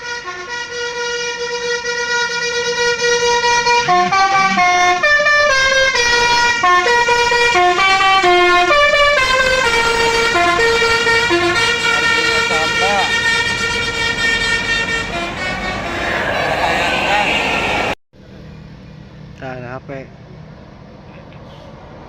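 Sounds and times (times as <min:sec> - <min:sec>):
bus air horn playing a tune: 0:00.0 - 0:17.8.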